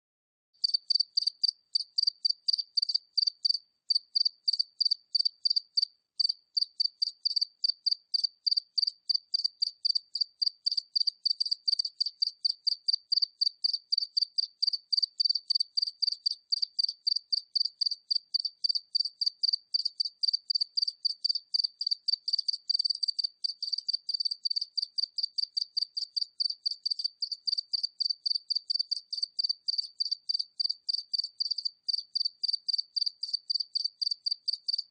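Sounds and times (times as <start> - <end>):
cricket chirping: 0.6 - 34.9.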